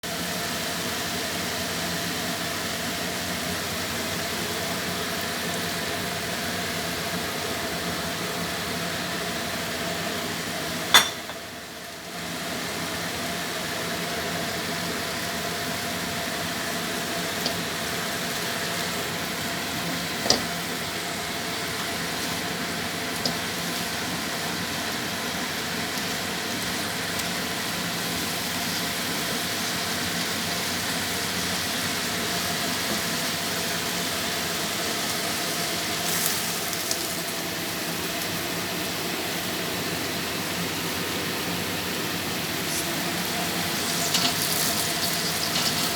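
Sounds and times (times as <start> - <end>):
steady mechanical hum: 0.0 - 45.9.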